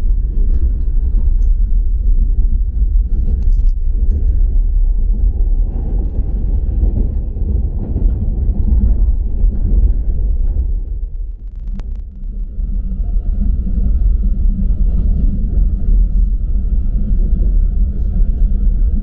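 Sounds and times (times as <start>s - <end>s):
train rumbling inside carriage: 0.0s - 19.0s.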